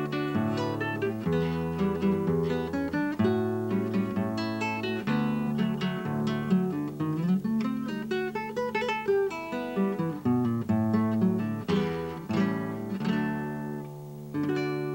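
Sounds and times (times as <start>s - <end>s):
fingerpicked classical guitar: 0.0s - 14.9s.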